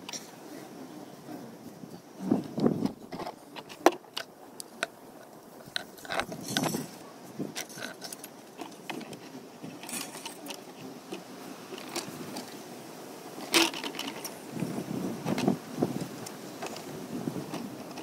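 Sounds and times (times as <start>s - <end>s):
wire and plastic clicking and rattling: 2.4s - 12.6s, 13.4s - 18.0s.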